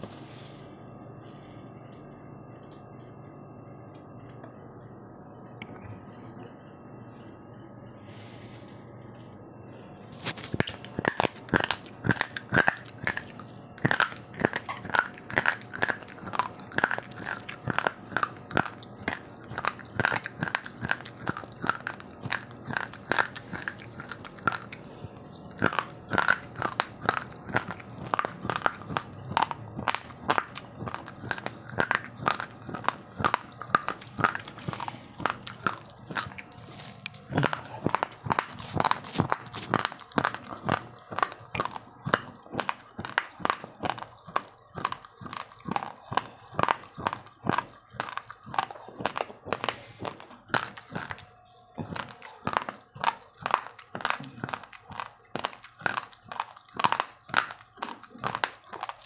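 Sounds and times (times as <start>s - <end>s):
rice grains crunched by teeth: 10.2s - 59.0s.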